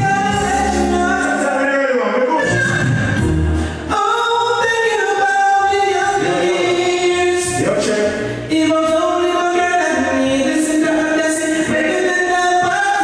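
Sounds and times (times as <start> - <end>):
heavy bass: 0.0 - 1.6, 2.4 - 13.0
sung vocals holding long notes: 0.0 - 13.0.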